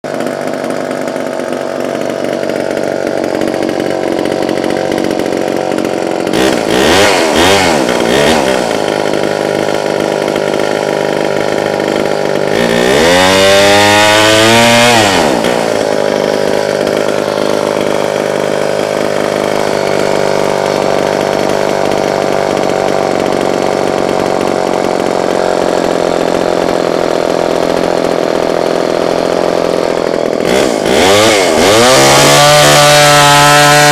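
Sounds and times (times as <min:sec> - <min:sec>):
chainsaw idling and revving: 0:00.0 - 0:33.9.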